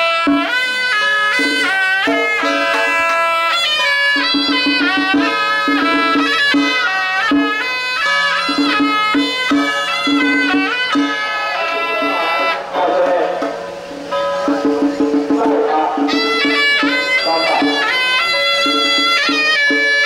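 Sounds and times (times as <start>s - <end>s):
reed wind instrument melody: 0.0s - 20.0s.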